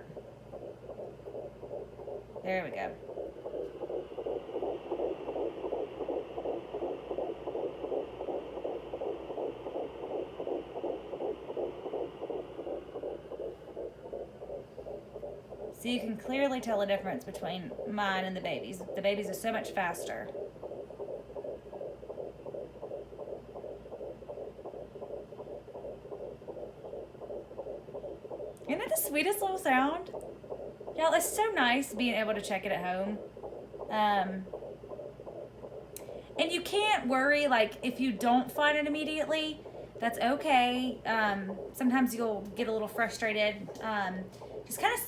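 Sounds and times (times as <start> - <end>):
faint steady hiss: 0.0 - 45.0
fetal heartbeat pulses: 0.0 - 45.0.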